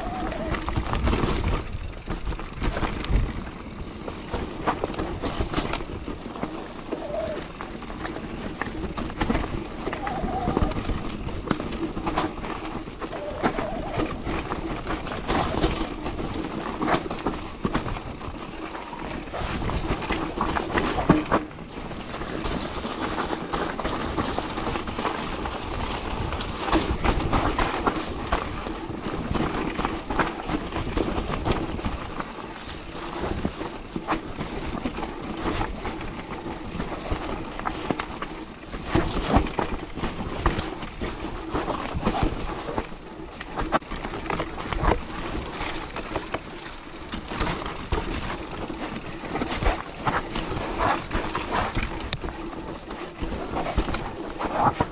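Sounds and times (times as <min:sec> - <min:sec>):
bike knocks and rattles: 0:00.0 - 0:54.9
tyres rolling on dirt: 0:00.0 - 0:54.9.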